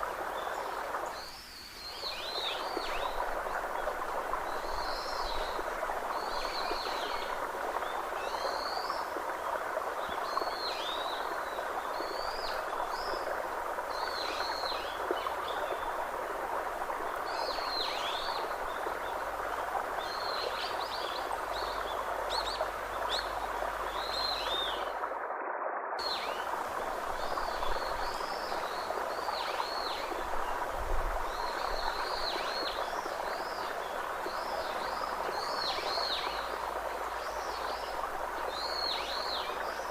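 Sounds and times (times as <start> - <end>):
outdoor ambience hiss: 0.0 - 25.0, 26.0 - 39.9.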